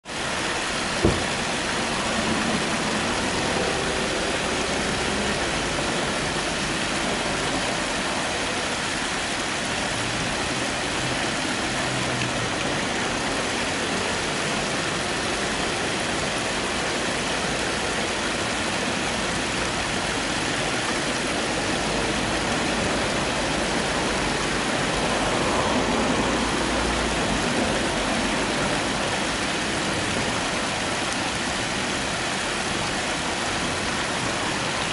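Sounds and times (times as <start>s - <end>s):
stream flowing over pebbles: 0.0s - 34.9s.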